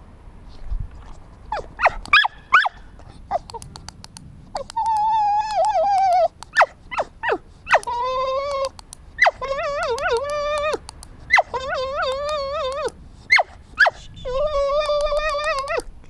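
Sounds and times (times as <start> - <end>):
dog whining: 1.5 - 3.7, 4.5 - 15.9
dog yelping: 1.5 - 3.7, 4.5 - 15.9.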